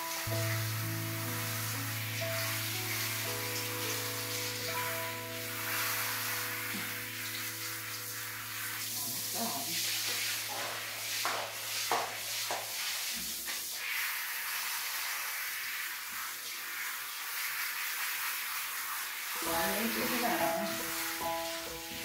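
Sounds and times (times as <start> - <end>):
shower spray hissing: 0.0 - 22.0.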